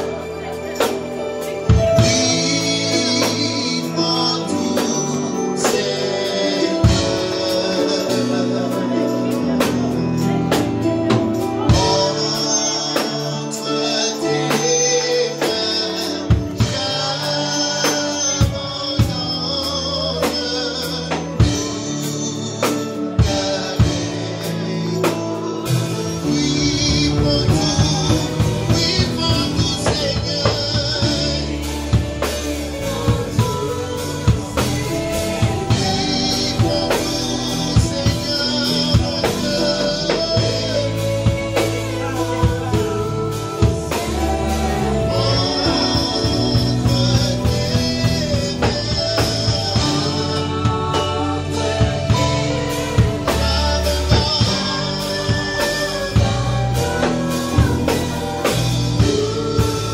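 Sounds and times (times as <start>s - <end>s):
person singing: 0.0s - 59.9s
worship band playing slow music: 0.0s - 59.9s.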